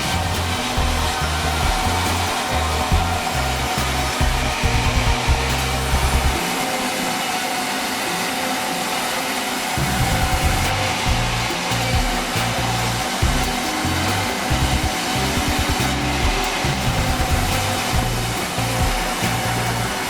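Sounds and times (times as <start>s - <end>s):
background music with bass line: 0.0s - 6.6s, 9.8s - 20.0s
sawmill machinery humming: 0.0s - 20.0s.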